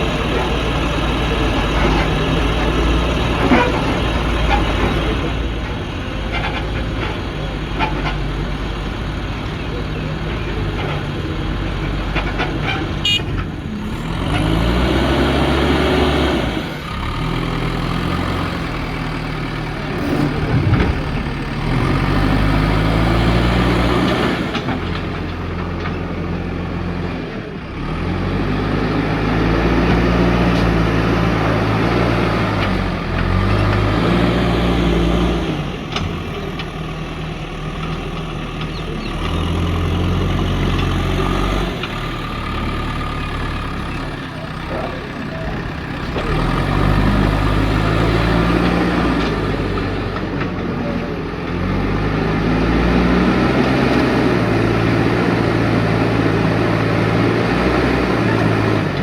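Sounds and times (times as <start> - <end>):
diesel engine revving under load: 0.0 - 59.0.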